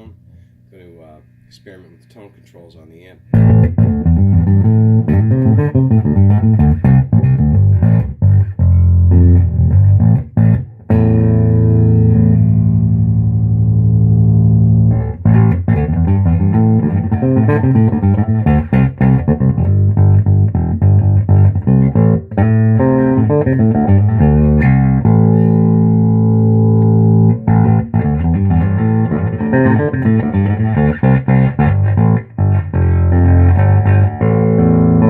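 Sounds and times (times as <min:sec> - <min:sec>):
plucked bass guitar line: 0:03.3 - 0:35.0.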